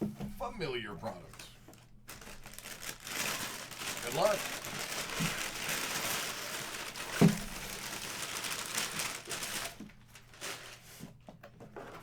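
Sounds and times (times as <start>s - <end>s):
packaging crinkling and rustling: 1.0s - 12.0s.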